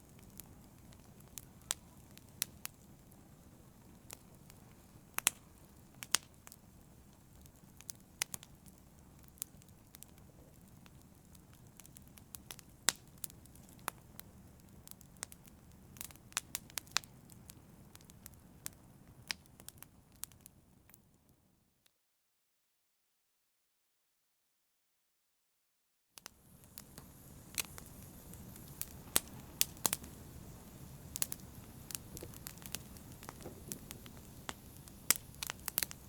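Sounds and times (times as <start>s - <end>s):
open fire crackling: 0.0s - 21.4s, 26.2s - 36.0s.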